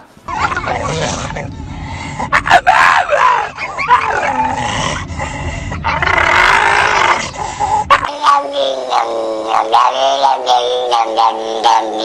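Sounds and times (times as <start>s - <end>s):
dog howling wavering calls: 0.3s - 1.6s, 2.2s - 12.0s.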